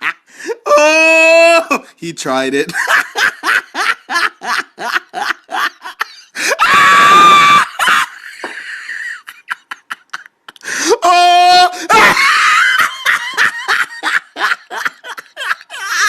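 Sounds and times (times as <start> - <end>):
man laughing hysterically: 0.0 - 1.9, 2.7 - 16.0.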